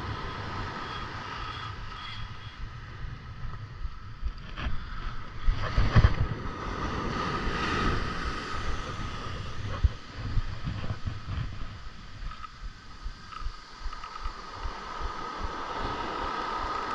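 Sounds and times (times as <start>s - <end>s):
surf washing up beach: 0.0s - 16.9s
wind buffeting microphone: 0.0s - 16.9s.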